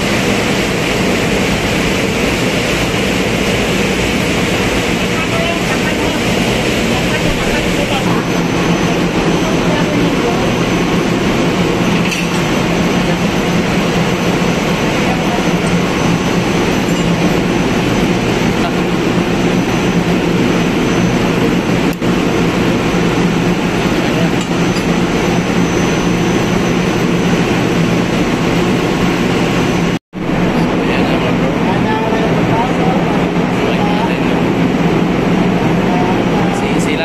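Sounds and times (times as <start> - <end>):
engine-room machinery drone: 0.0 - 37.0.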